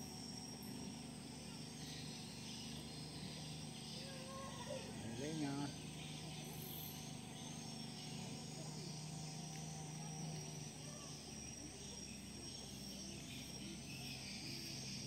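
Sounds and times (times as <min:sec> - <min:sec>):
insects chirping: 0:00.0 - 0:15.0
low steady hum: 0:00.0 - 0:15.0.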